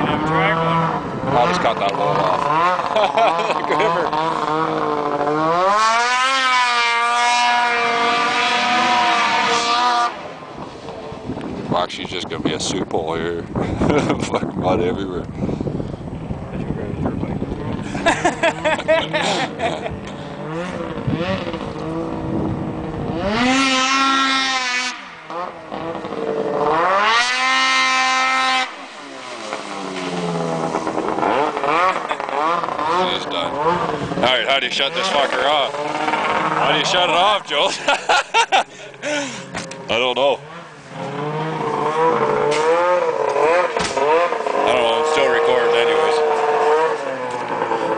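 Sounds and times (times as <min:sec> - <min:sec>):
snowmobile engine revving: 0:00.0 - 0:12.3, 0:17.4 - 0:47.9.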